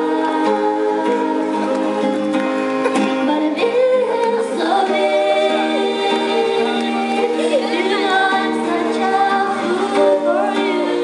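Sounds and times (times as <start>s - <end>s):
woman singing slow melody: 0.0s - 1.8s, 3.1s - 11.0s
strummed acoustic guitar: 0.0s - 11.0s.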